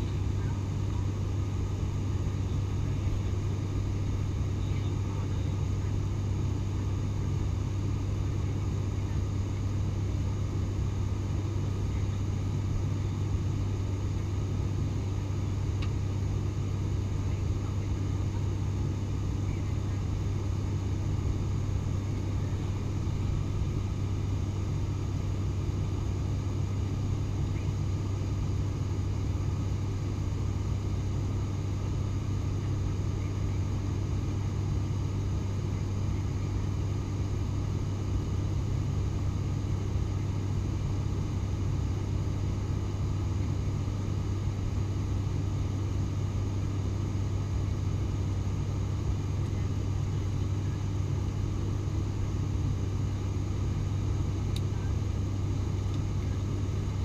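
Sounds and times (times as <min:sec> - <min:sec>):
engine and airflow noise: 0:00.0 - 0:57.0
propeller plane cabin drone: 0:00.0 - 0:57.0.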